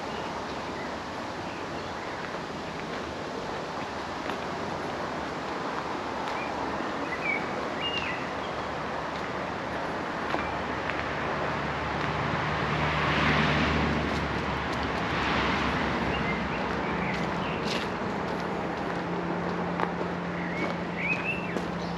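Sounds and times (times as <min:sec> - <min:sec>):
vehicle passing on road: 0:02.4 - 0:21.9.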